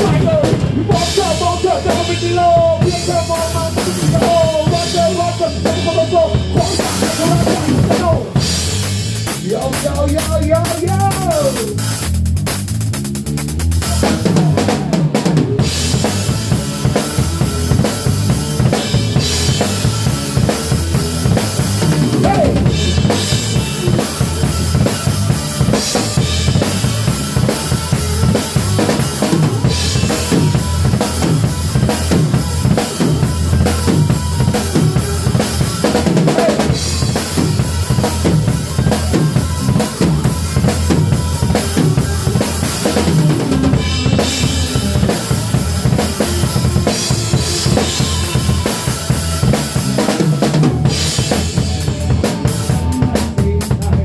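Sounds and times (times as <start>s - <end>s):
bass drum: 0.0s - 54.0s.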